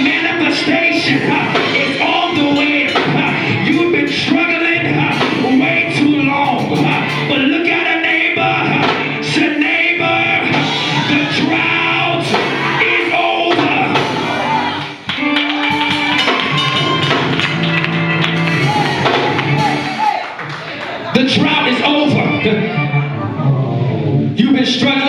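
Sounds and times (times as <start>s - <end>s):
drum and cymbal hits: 0.0s - 20.3s
live gospel music: 0.0s - 25.0s
people singing and shouting: 0.0s - 25.0s.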